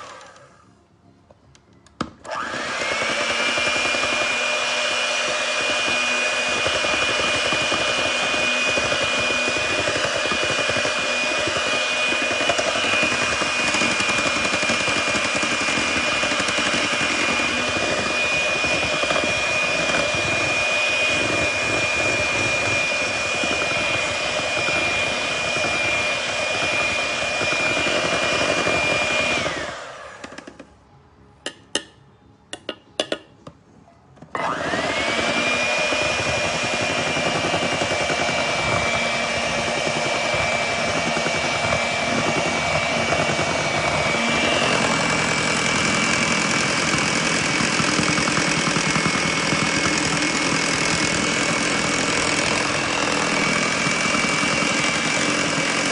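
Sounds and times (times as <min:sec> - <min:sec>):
electric hand mixer whining: 0:00.0 - 0:00.6, 0:02.2 - 0:30.6, 0:34.3 - 0:55.9.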